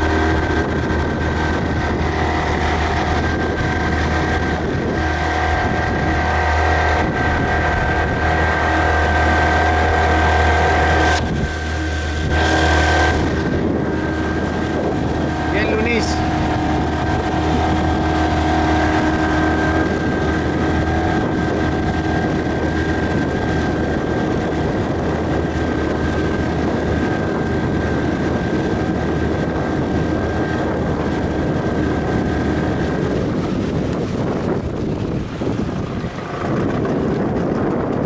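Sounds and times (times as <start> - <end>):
motorboat engine running: 0.0 - 38.0
rushing water: 0.0 - 38.0
wind buffeting microphone: 0.0 - 38.0.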